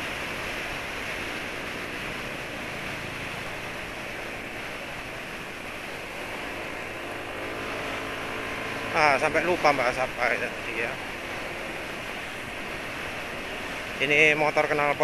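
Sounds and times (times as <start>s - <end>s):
motorbike engine and road noise: 0.0s - 15.0s.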